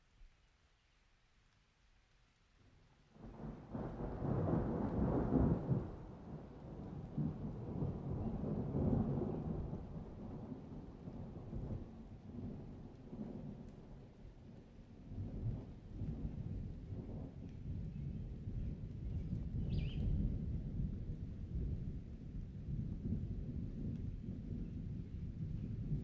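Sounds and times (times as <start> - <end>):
thunder rumbling: 3.2 - 13.8, 15.1 - 26.0.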